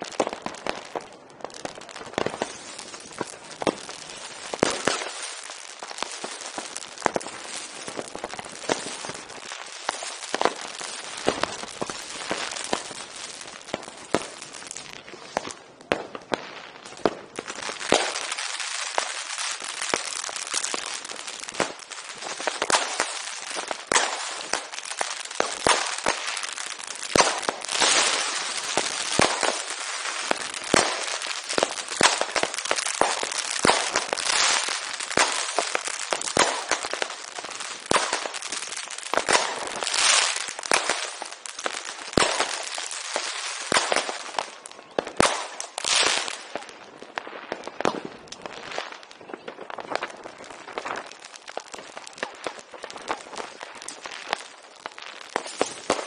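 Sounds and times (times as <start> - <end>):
firecrackers crackling: 0.0 - 56.0
fireworks bangs: 0.0 - 56.0.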